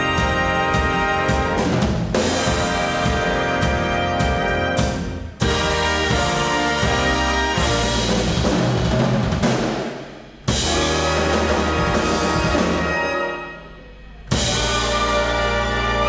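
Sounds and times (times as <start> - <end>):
funk jazz band playing: 0.0 - 9.7, 10.5 - 13.6, 14.2 - 16.0
loud band hit: 0.0 - 16.0.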